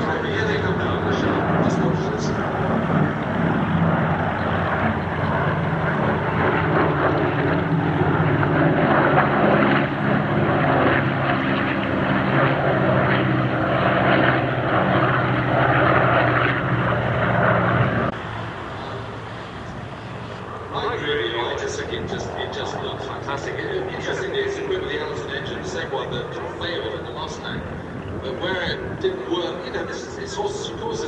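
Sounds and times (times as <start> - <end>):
propeller and air rush: 0.0 - 31.0
propeller plane engines droning: 0.0 - 31.0.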